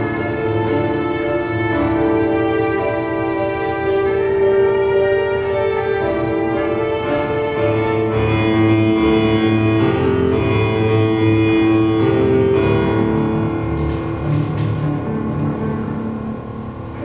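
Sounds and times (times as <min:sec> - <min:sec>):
cello playing slow melody: 0:00.0 - 0:17.0
piano accompaniment: 0:00.0 - 0:17.0.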